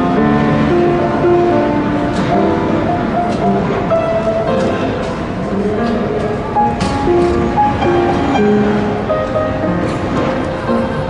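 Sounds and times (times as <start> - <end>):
piano playing: 0.0 - 11.0.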